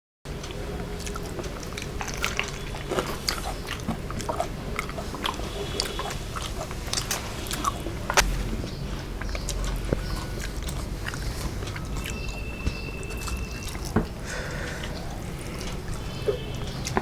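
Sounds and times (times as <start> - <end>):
chewing and mouth clicks: 0.3 - 17.0.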